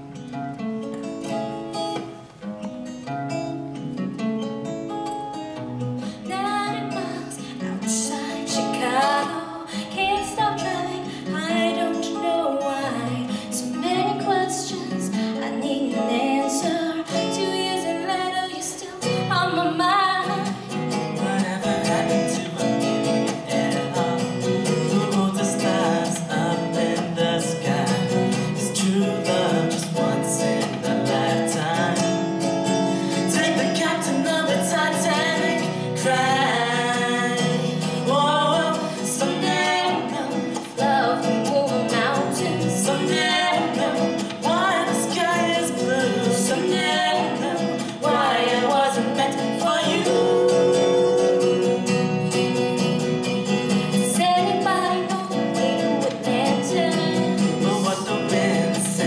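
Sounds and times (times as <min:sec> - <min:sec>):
acoustic guitar plucked and strummed: 0:00.0 - 0:59.0
woman singing a slow song: 0:06.0 - 0:53.1, 0:53.7 - 0:59.0.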